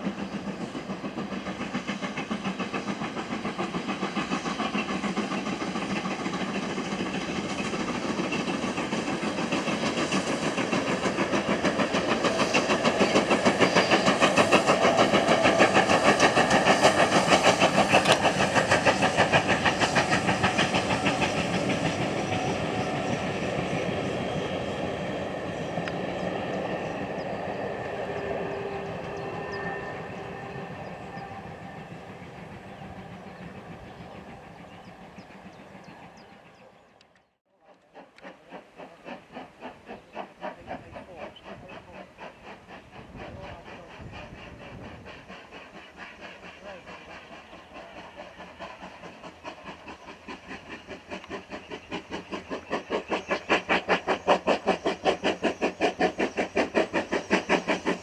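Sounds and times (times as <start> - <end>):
rail noise: 0.0 - 58.0
steam locomotive exhaust beats: 0.0 - 58.0.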